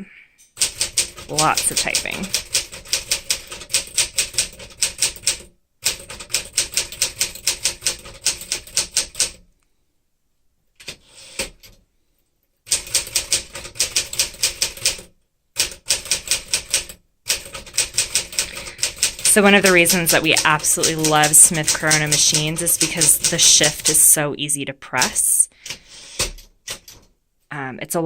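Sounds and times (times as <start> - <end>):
manual typewriter typing: 0.5 - 9.4, 10.8 - 11.8, 12.6 - 24.2, 24.9 - 27.1.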